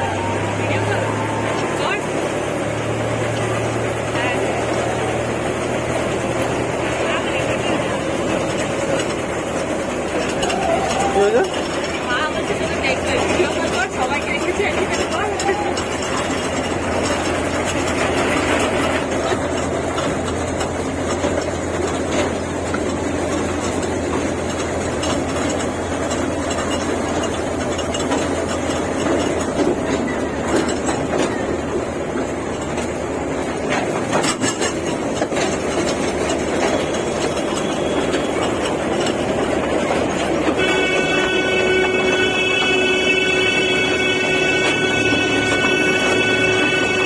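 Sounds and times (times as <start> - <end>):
sharp clicks from train wheels: 0.0 - 47.0
toy train rumbling on track: 0.0 - 47.0.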